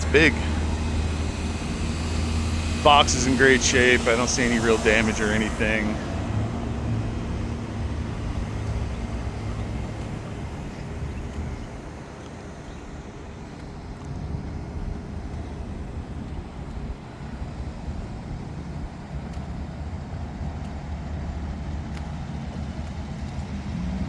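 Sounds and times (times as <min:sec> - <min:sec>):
low vehicle rumble: 0:00.0 - 0:24.0
outdoor noise: 0:00.0 - 0:24.0.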